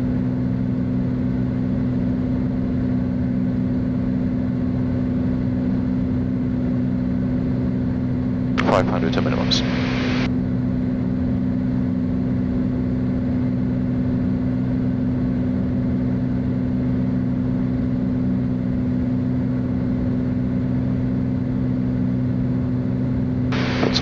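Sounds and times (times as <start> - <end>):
aircraft engine and propeller drone: 0.0 - 24.0.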